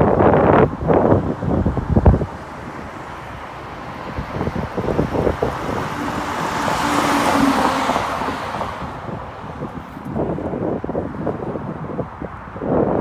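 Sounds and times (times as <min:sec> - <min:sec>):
wind rumbling on microphone: 0:00.0 - 0:13.0
truck passing by: 0:01.0 - 0:12.0.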